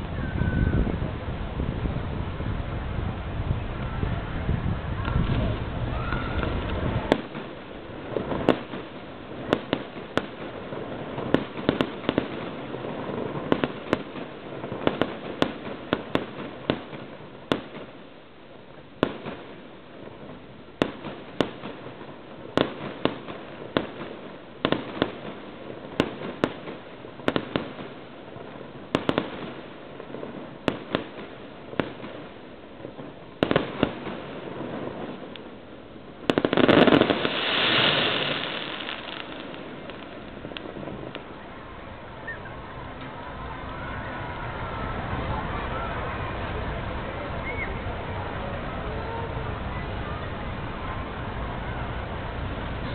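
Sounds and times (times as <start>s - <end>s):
fireworks bangs: 0.0s - 52.9s
fireworks crackling hiss: 0.0s - 52.9s.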